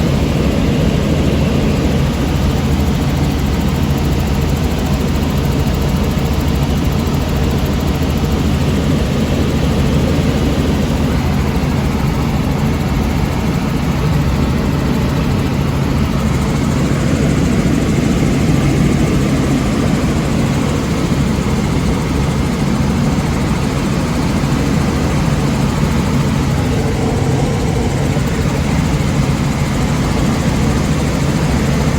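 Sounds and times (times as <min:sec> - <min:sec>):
helicopter engine and rotor drone: 0:00.0 - 0:31.9.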